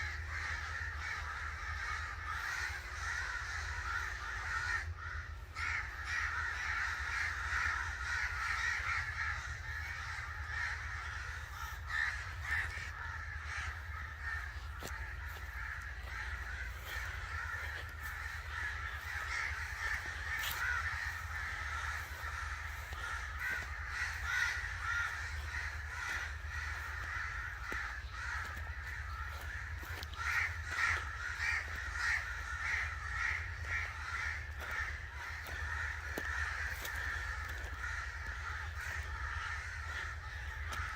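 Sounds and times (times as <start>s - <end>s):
crows cawing: 0.0s - 40.9s.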